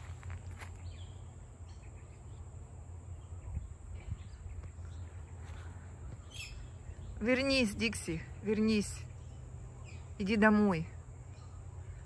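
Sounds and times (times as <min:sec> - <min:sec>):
faint bird chirps: 0:00.0 - 0:12.0
low steady rumble: 0:00.0 - 0:12.0.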